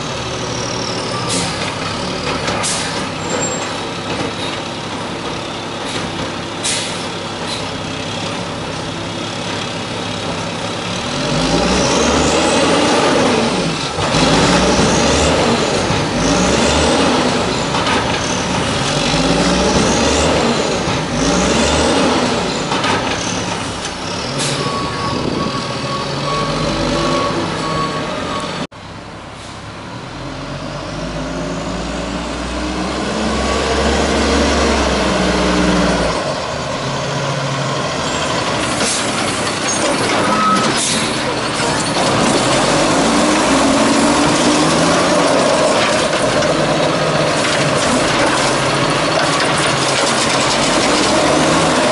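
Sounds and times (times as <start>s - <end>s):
garbage truck engine revving: 0.0s - 28.7s, 30.0s - 51.9s.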